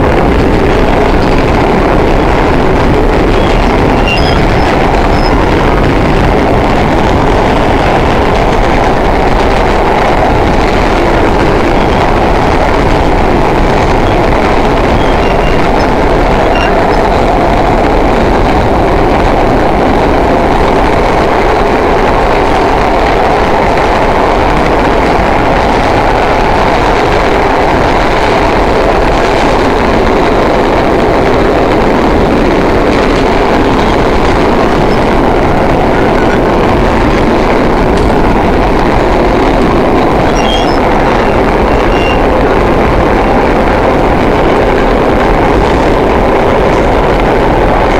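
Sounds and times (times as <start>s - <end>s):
subway train wheels on rails: 0.0s - 47.9s.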